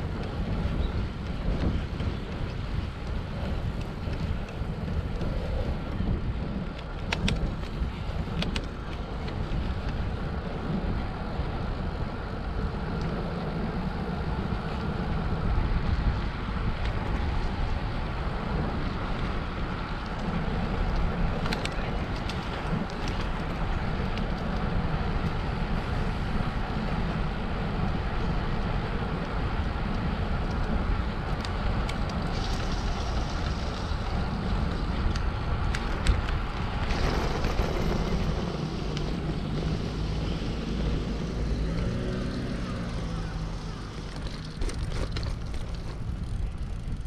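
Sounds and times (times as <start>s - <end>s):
wind rushing over microphone: 0.0s - 47.0s.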